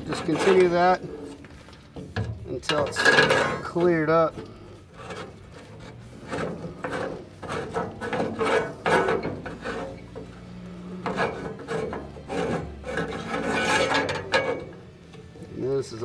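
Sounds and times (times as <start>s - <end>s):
metal auger scraping and grinding: 0.0s - 16.0s.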